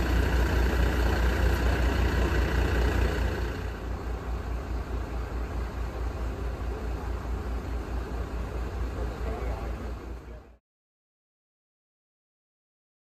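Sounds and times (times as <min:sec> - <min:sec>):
diesel truck engine idling: 0:00.0 - 0:10.6.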